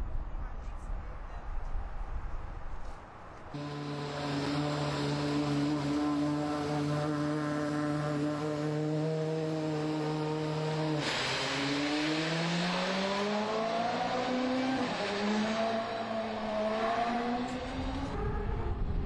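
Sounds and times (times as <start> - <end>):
race car engine revving: 3.6 - 19.0.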